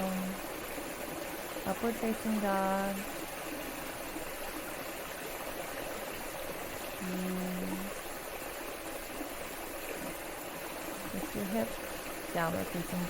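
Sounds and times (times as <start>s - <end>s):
steady hum: 0.0s - 13.0s
water rushing: 0.0s - 13.0s.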